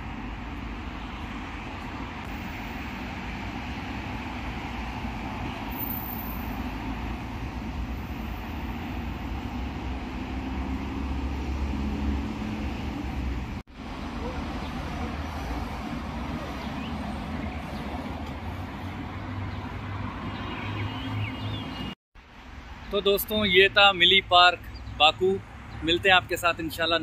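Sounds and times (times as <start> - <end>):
engine hum: 0.0 - 21.9
traffic rumble: 0.0 - 27.0.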